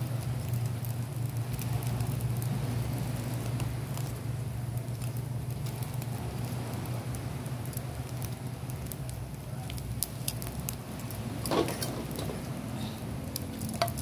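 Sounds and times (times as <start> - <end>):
charcoal fire crackling and popping: 0.0 - 14.0
steady low hum: 0.0 - 14.0.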